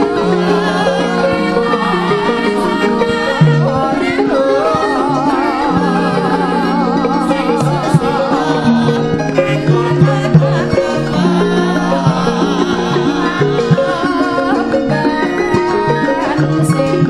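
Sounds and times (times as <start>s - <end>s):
hand-drum strokes: 0.0s - 17.0s
struck metal notes: 0.0s - 17.0s
woman singing: 0.0s - 17.0s.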